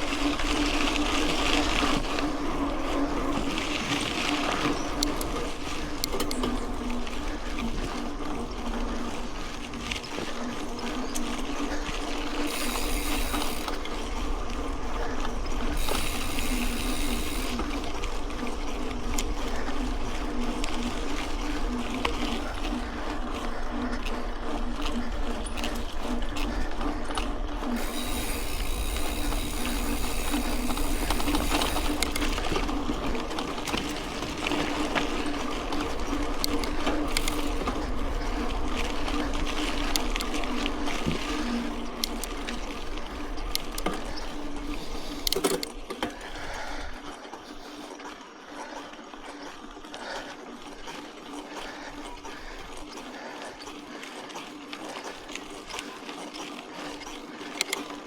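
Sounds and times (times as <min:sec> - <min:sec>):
bike chain rattling and clicking: 0:00.0 - 0:46.8
bike tyres on gravel: 0:00.0 - 0:47.8.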